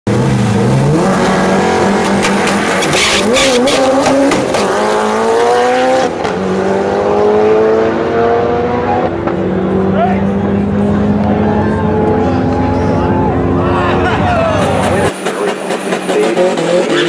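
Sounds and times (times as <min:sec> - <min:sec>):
turbocharged engine accelerating: 0:00.1 - 0:17.0.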